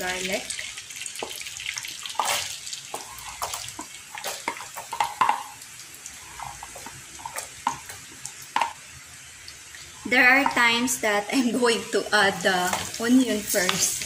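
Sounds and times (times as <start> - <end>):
garlic sizzling in butter: 0.0 - 14.0.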